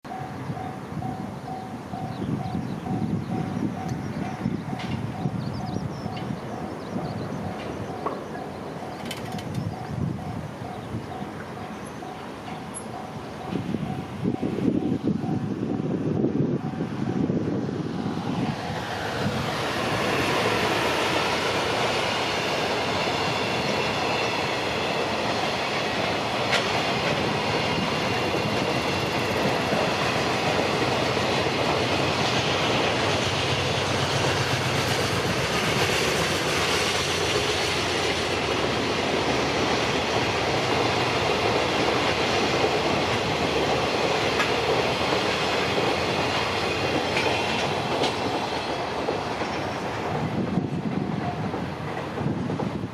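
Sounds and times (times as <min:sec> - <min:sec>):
train wheels clattering over rail joints: 0:00.6 - 0:15.4, 0:18.6 - 0:52.9.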